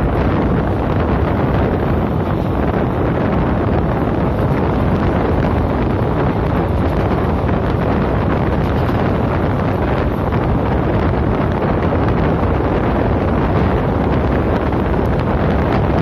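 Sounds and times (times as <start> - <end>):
train rumbling on the track: 0.0 - 16.0
wind buffeting the microphone: 0.0 - 16.0.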